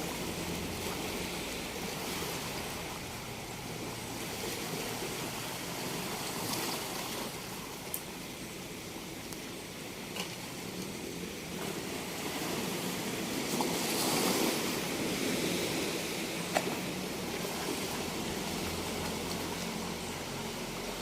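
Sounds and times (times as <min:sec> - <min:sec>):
sea waves washing onto beach: 0:00.0 - 0:21.0.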